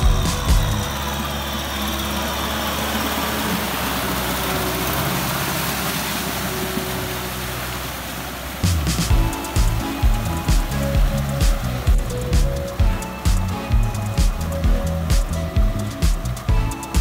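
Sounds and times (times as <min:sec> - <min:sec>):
rotary tiller churning mud: 0:00.0 - 0:17.0
tractor diesel engine running: 0:00.0 - 0:17.0.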